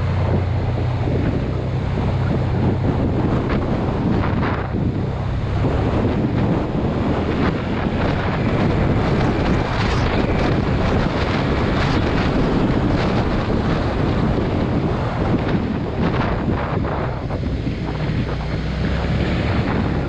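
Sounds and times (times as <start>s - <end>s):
motorcycle engine and tyres: 0.0s - 20.0s
wind buffeting microphone: 0.0s - 20.0s.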